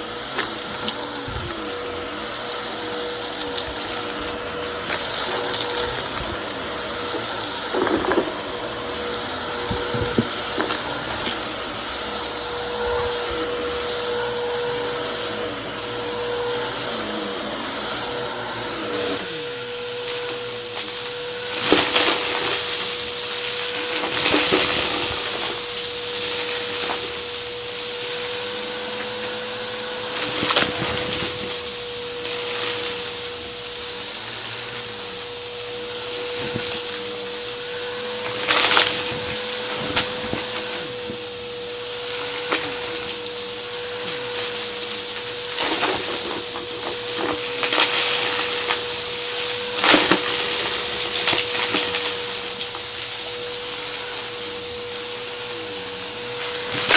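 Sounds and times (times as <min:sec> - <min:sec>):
debris rattling in vacuum: 0:00.0 - 0:56.9
vacuum cleaner running: 0:00.0 - 0:56.9.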